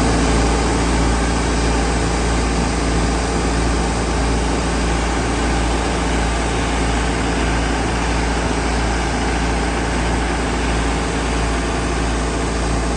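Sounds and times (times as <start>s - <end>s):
backhoe engine droning: 0.0s - 12.9s.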